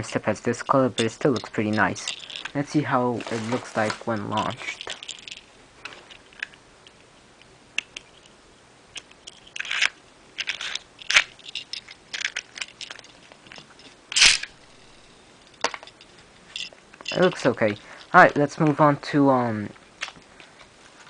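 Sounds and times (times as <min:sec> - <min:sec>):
plastic clicks and rustling: 0:00.5 - 0:08.3, 0:08.9 - 0:18.9, 0:20.0 - 0:20.7.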